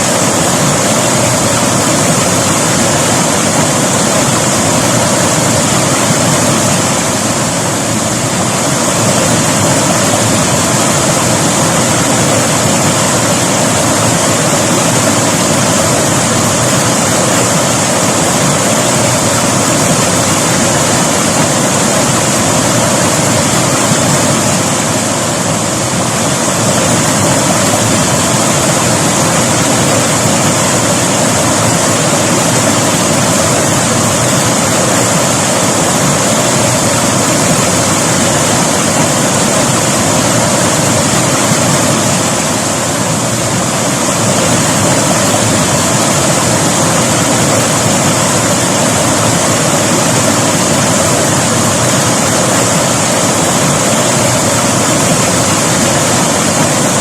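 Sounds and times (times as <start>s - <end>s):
river water rushing and splashing: 0.0s - 57.0s.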